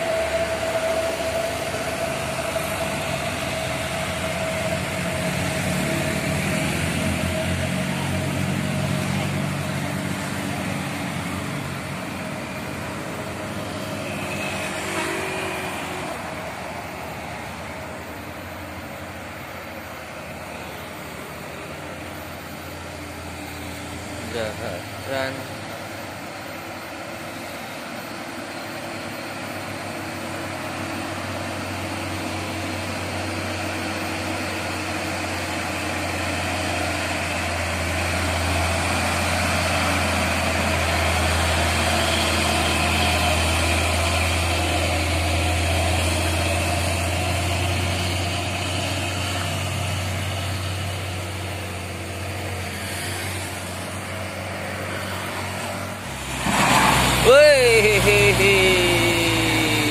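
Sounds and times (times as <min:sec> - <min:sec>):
truck diesel engine climbing: 0:00.0 - 0:59.9.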